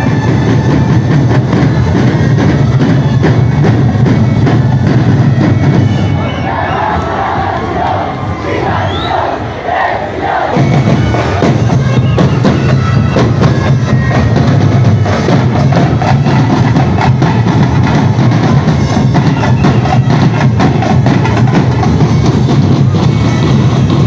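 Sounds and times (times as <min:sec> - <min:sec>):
percussion band drumming: 0:00.0 - 0:09.4, 0:10.2 - 0:24.0.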